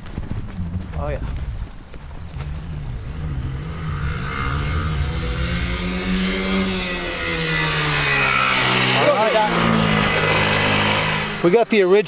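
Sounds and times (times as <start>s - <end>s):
lawnmower engine running: 2.0s - 12.0s.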